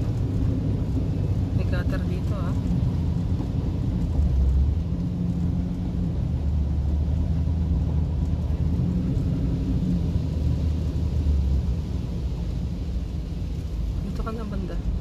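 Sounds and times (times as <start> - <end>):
car engine rumble from inside: 0.0 - 15.0.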